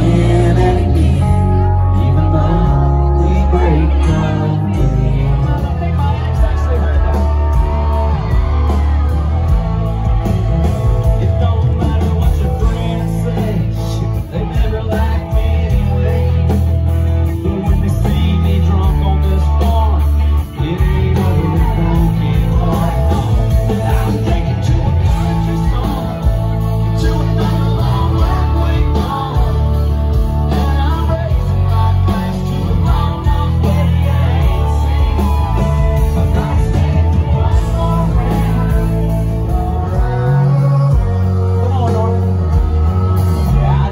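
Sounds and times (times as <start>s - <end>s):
heavy bass: 0.0s - 43.9s
live country-rock band playing: 0.0s - 43.9s
man singing lead: 0.0s - 43.9s.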